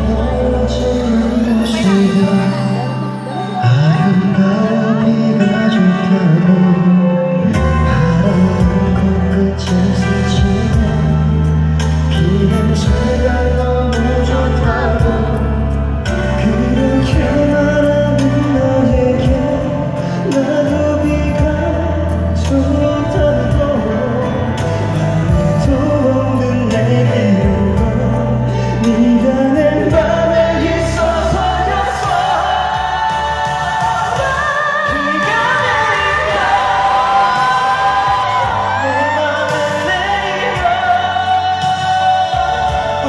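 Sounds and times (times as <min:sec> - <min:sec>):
band backing track: 0:00.0 - 0:43.0
men singing: 0:03.6 - 0:43.0.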